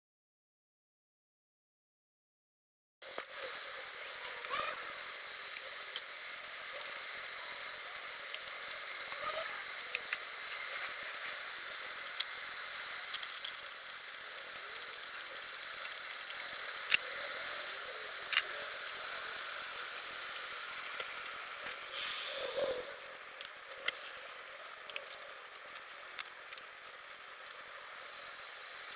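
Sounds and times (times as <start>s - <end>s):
food sizzling in a pan: 3.0s - 28.9s.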